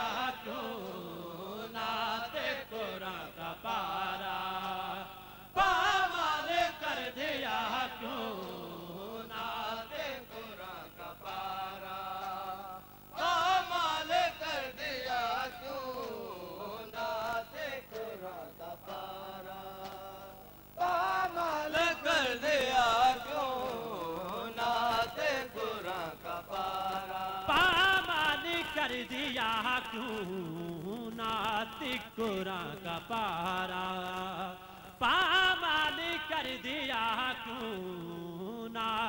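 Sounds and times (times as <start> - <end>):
men chanting a lament: 0.0 - 39.0.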